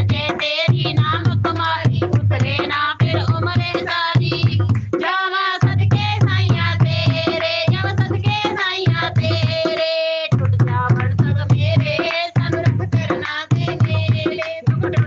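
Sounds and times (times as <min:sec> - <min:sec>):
person singing devotional song: 0:00.0 - 0:15.0
steady percussion: 0:00.0 - 0:15.0.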